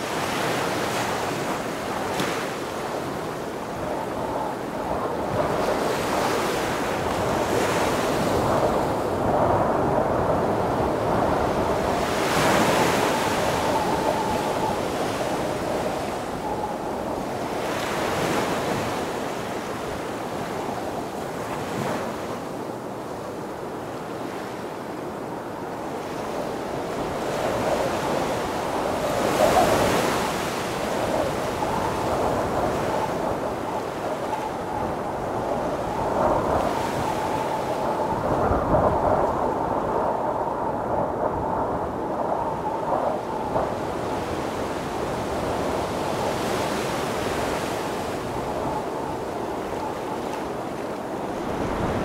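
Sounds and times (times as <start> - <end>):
strong wind rushing through palm fronds: 0.0 - 52.0
surf washing on shore: 0.0 - 52.0
wind buffeting microphone: 0.0 - 52.0.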